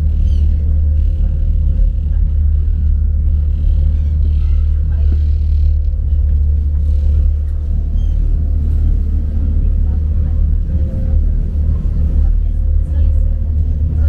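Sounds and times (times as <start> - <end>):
faint constant hum: 0.0 - 14.0
ferry engine rumble: 0.0 - 14.0.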